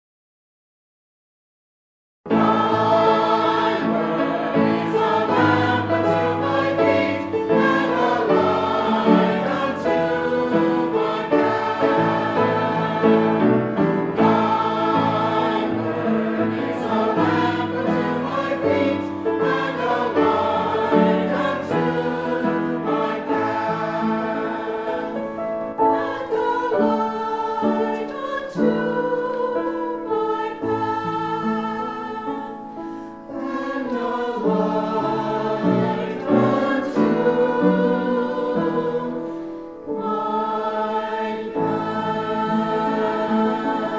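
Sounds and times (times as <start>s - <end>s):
choir singing a hymn: 2.3s - 43.9s.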